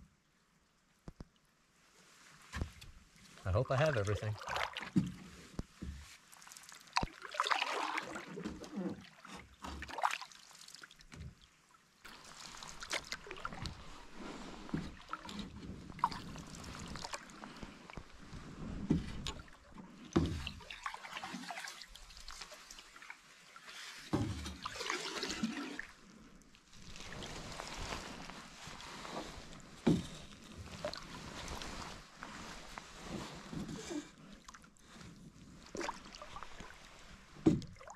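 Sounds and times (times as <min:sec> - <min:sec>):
canoe paddle strokes in water: 0:02.0 - 0:37.9
water trickling off paddle: 0:02.6 - 0:37.9.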